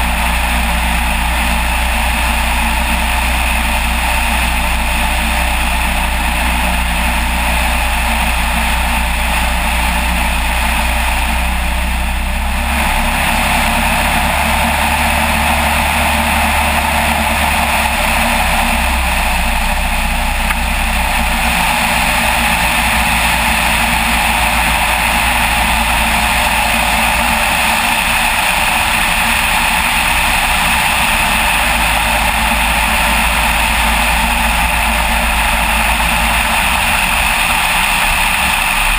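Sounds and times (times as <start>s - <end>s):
light aircraft engine: 0.0s - 38.9s.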